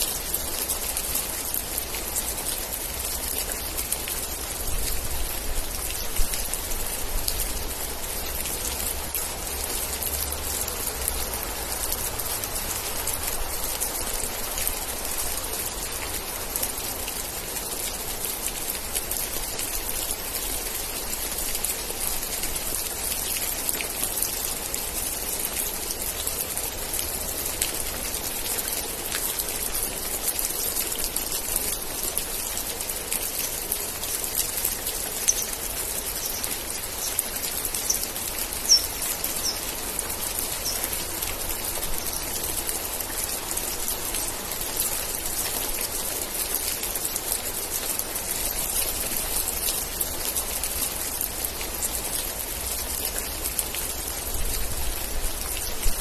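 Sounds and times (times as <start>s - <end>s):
rain drops ticking: 0.0s - 56.0s.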